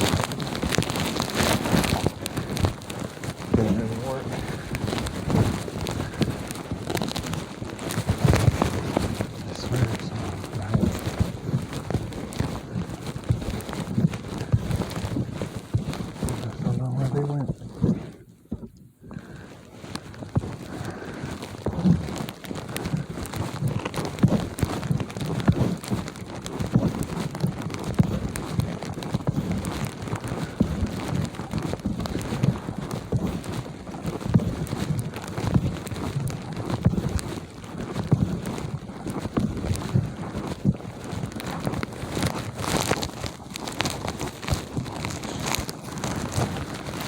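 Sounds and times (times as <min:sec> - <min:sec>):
footsteps crunching in snow: 0:00.0 - 0:47.0.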